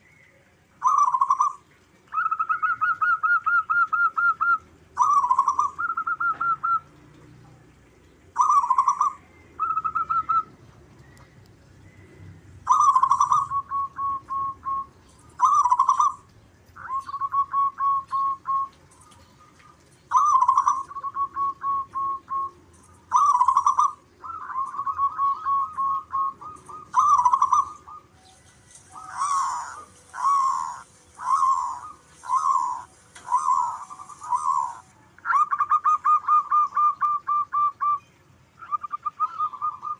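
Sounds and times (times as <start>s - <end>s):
doves cooing: 0.0s - 38.0s, 38.6s - 39.9s.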